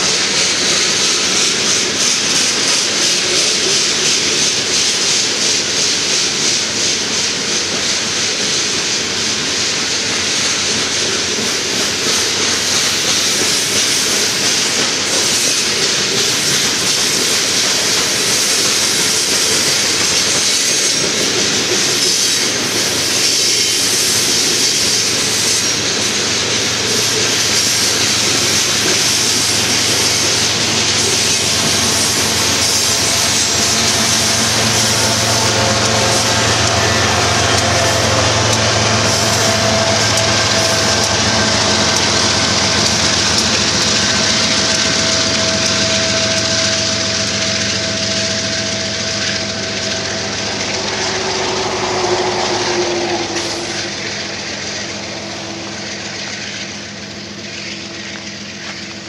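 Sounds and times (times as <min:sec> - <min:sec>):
diesel locomotives passing: 0:00.0 - 0:59.0
freight train wheels on rails: 0:00.0 - 0:59.0.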